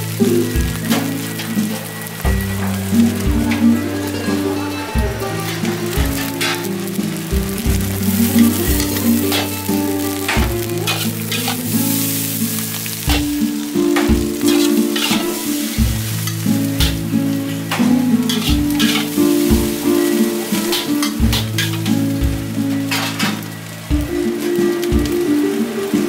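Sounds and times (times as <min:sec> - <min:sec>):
background music: 0:00.0 - 0:26.0
rice sizzling in a wok: 0:00.0 - 0:26.0
metal ladle scraping a wok: 0:00.2 - 0:23.8.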